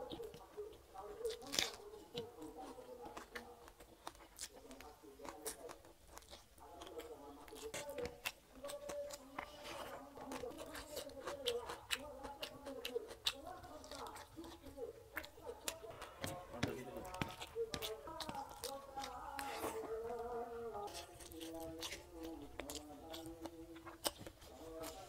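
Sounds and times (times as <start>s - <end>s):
fingers squishing through rice: 0.0s - 25.0s
wet chewing and lip-smacking: 0.0s - 25.0s.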